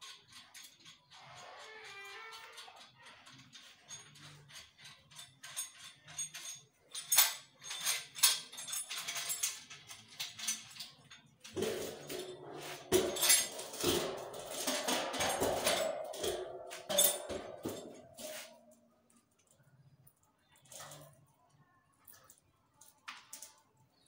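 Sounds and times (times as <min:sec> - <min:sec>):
metal clinks and clicks: 0:00.0 - 0:21.3, 0:22.0 - 0:24.0.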